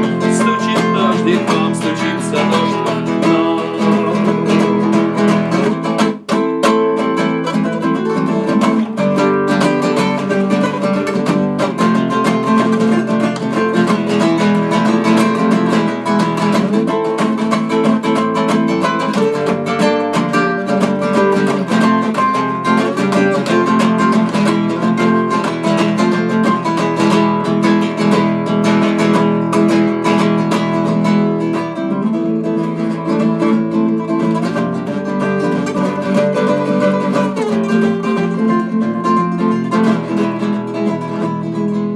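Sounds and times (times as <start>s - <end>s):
acoustic guitar playing: 0.0s - 41.9s.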